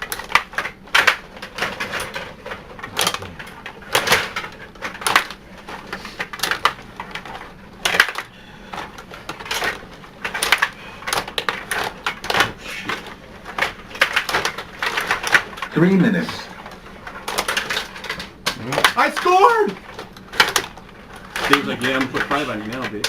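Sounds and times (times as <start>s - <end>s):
table hockey clatter: 0.0s - 23.0s.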